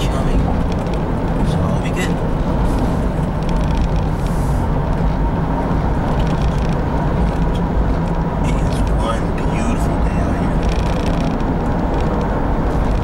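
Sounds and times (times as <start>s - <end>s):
car cabin engine and road drone: 0.0s - 13.0s.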